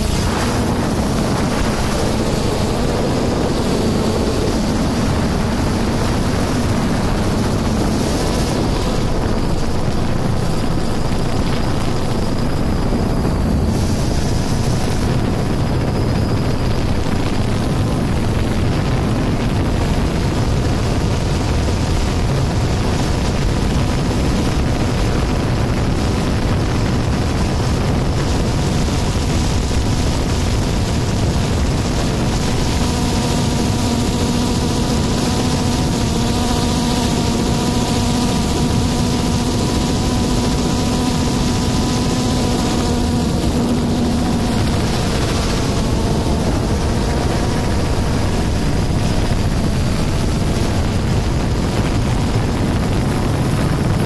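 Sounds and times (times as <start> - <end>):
drone propellers buzzing: 0.0 - 54.0
low hum: 0.0 - 54.0.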